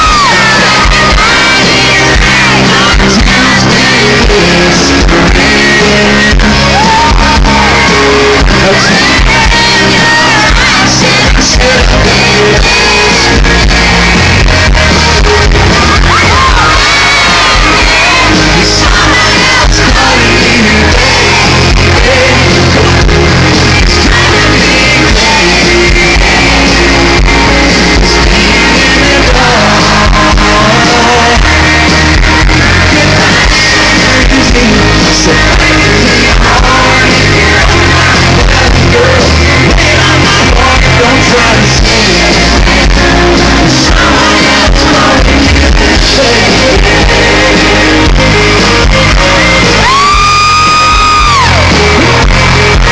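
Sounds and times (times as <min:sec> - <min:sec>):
crowd yelling: 0:00.0 - 0:52.9
live country band playing: 0:00.0 - 0:52.9
person singing: 0:00.0 - 0:52.9.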